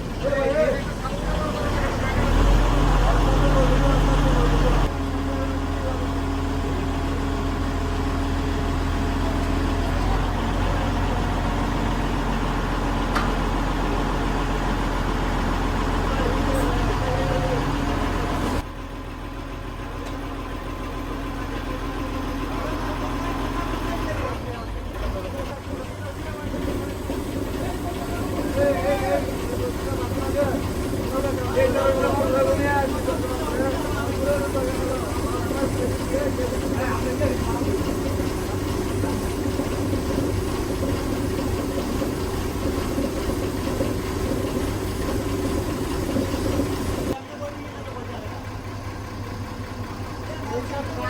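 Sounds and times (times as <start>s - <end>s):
industrial machinery rumble: 0.0s - 51.0s.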